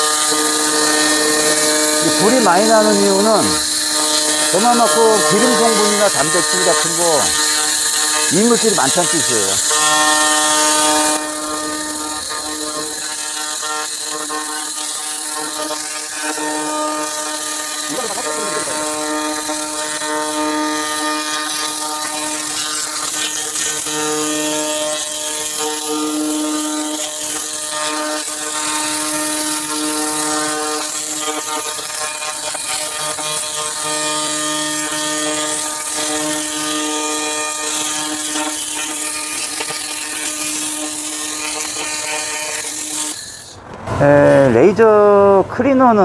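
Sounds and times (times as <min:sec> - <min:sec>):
laser cleaner buzzing hum: 0:00.0 - 0:43.5.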